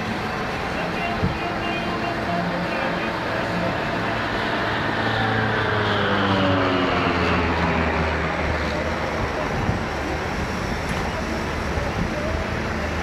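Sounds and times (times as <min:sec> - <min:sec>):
airplane engine passing: 0:00.0 - 0:13.0.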